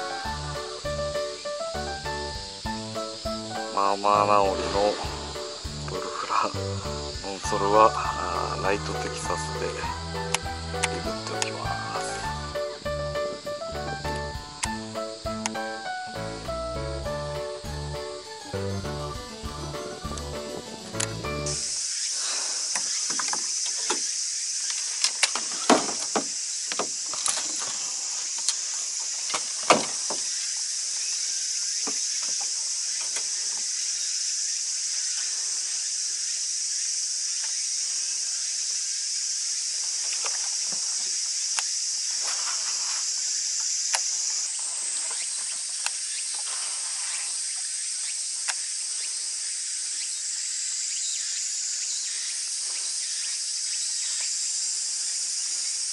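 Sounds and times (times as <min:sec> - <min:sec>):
high-pitched insect chorus: 0:00.0 - 0:55.9.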